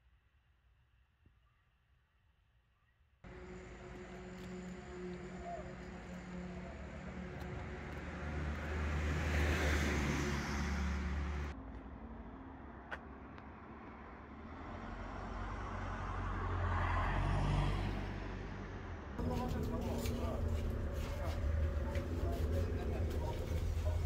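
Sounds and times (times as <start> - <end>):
car passing: 3.3 - 24.0.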